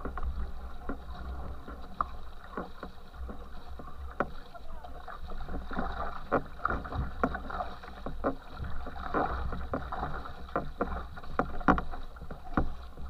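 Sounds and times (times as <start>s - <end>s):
sharp splashes and knocks: 0.0s - 13.0s
water rushing and splashing: 0.0s - 13.0s.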